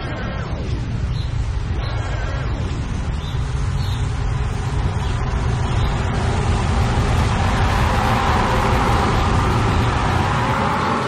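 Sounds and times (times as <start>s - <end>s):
brighter mid-range layer: 0.0s - 11.0s
rumbling delay-processed drone: 0.0s - 11.0s
steady low rumble: 0.0s - 11.0s.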